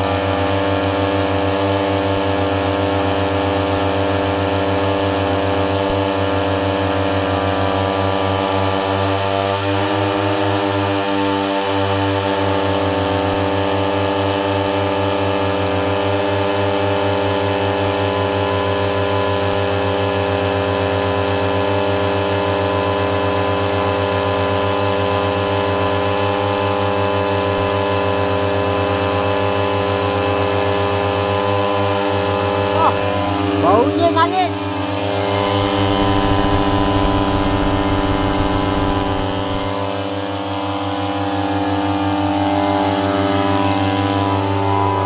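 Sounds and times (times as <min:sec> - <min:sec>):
two-stroke engines droning: 0:00.0 - 0:45.0.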